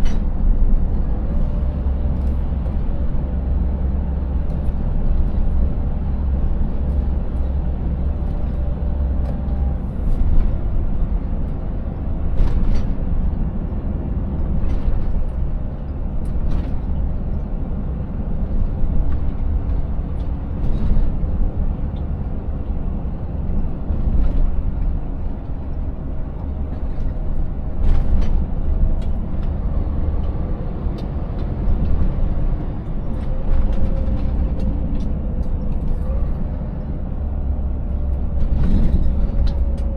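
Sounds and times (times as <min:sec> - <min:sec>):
road noise: 0:00.0 - 0:39.9
truck diesel engine rumbling: 0:00.0 - 0:39.9
truck knocks and rattles: 0:00.0 - 0:39.9.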